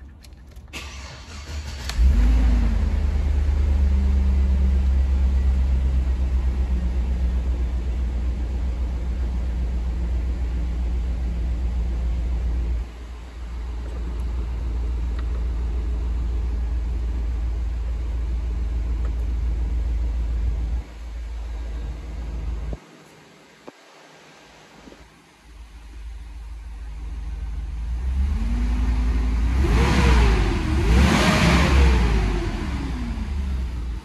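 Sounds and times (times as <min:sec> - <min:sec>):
car engine idling: 0:00.0 - 0:23.7, 0:24.5 - 0:34.0.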